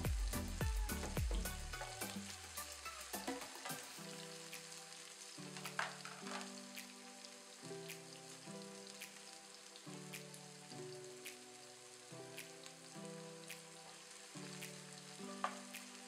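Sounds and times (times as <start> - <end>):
background music: 0.0 - 16.0
vegetables sizzling in oil: 0.0 - 16.0.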